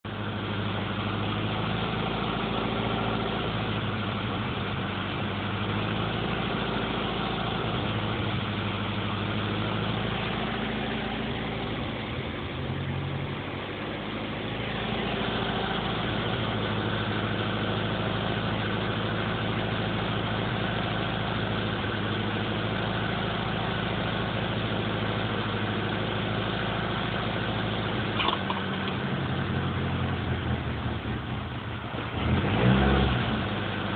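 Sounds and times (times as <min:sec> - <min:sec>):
car engine idling roughly: 0:00.0 - 0:32.2.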